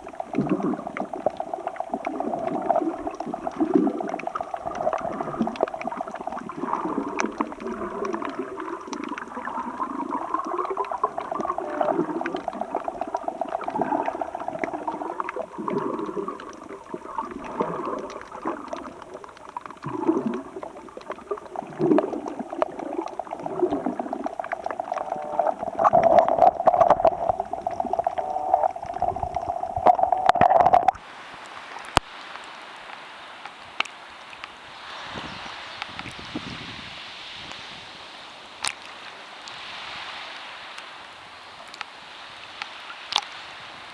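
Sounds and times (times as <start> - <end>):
sea water gurgling and sloshing: 0.0 - 43.9.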